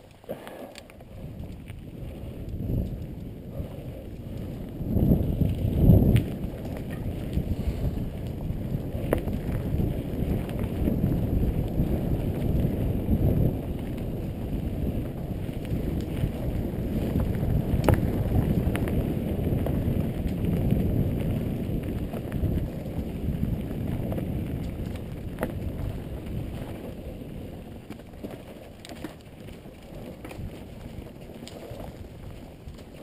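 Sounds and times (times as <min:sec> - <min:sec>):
bike tyres rumbling on dirt: 0:00.0 - 0:33.0
wind buffeting microphone: 0:00.9 - 0:33.0.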